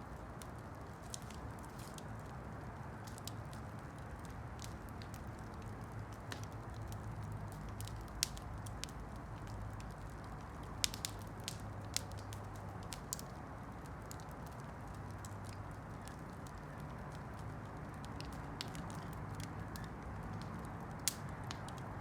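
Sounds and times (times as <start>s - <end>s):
campfire crackling and popping: 0.1s - 22.0s.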